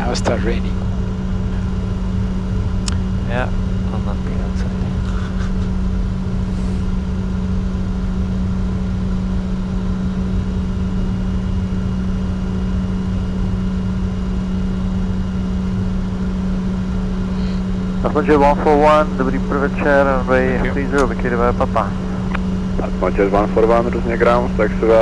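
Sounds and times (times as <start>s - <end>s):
jet cockpit engine hum: 0.0s - 25.0s.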